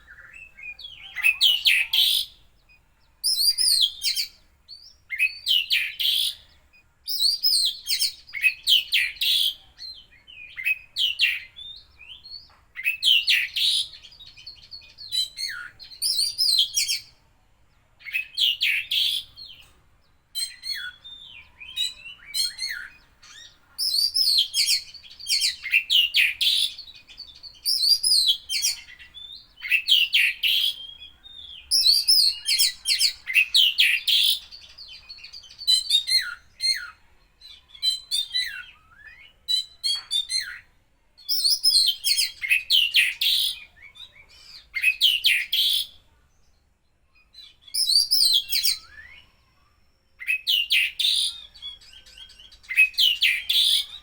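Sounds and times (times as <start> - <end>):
bird singing whistles and trills: 0.0 - 17.2, 18.0 - 46.1, 47.0 - 54.0.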